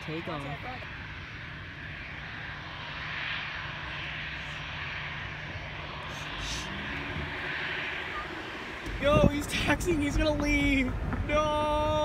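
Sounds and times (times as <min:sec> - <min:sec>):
distant jet engines running: 0:00.0 - 0:12.0.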